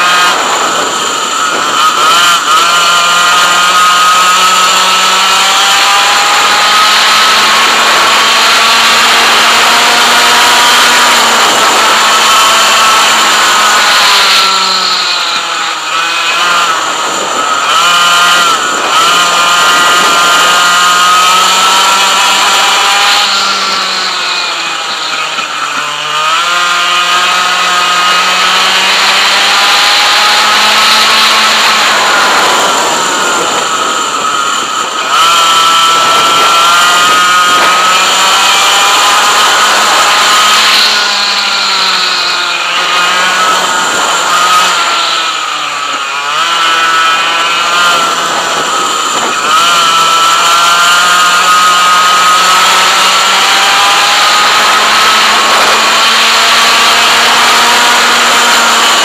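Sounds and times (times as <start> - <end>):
two-stroke kart engine revving: 0.0 - 59.0.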